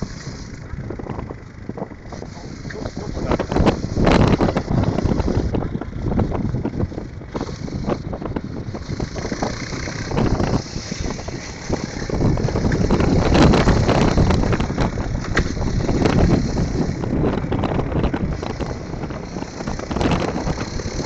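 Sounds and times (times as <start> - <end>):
motorcycle engine: 0.0 - 21.0
wind buffeting microphone: 0.0 - 21.0.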